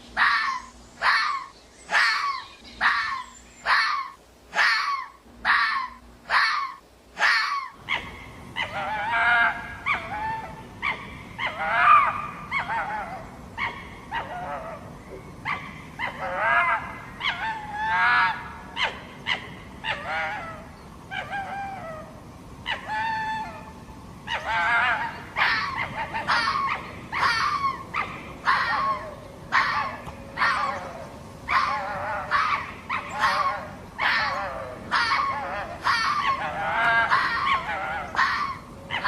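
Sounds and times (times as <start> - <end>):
fox barking and yelping: 0.1 - 39.0.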